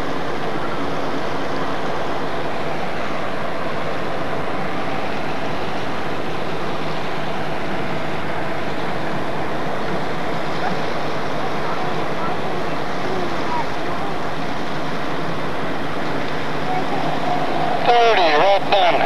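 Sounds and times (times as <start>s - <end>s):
diesel boat engine running: 0.0s - 19.0s
propeller churning water: 0.0s - 19.0s.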